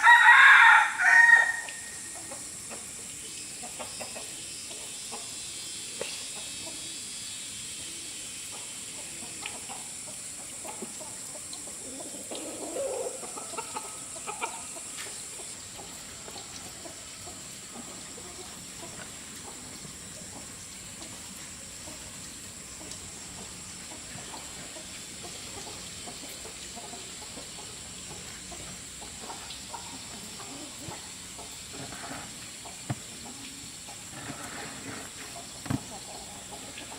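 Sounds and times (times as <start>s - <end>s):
steady high-pitched hiss: 0.0s - 36.9s
chickens clucking: 1.6s - 7.0s, 8.5s - 36.9s.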